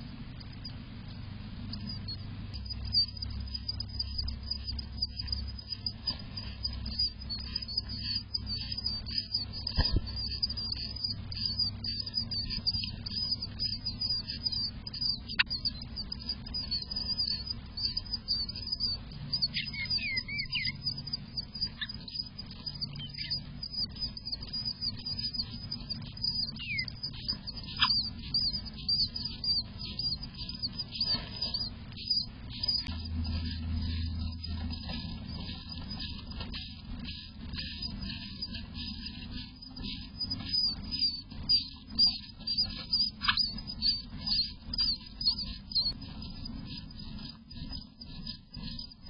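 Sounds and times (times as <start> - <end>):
nestlings begging chirps: 1.6 - 49.0.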